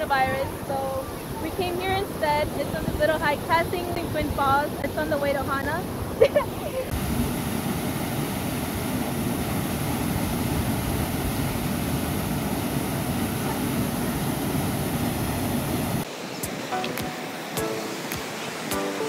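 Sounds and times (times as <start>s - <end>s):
waterfall rushing into pool: 0.1s - 19.0s.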